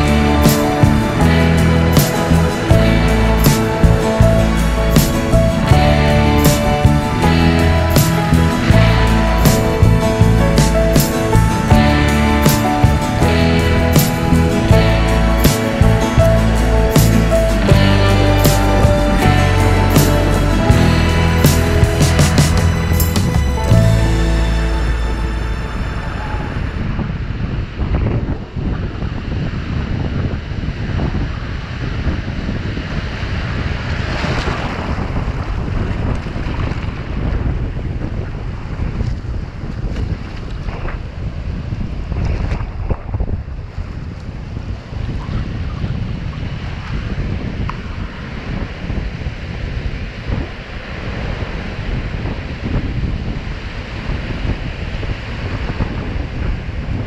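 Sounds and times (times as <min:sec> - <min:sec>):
ocean surf breaking: 0:00.0 - 0:57.0
sea waves washing against rock: 0:00.0 - 0:57.0
wind noise on microphone: 0:00.0 - 0:57.0.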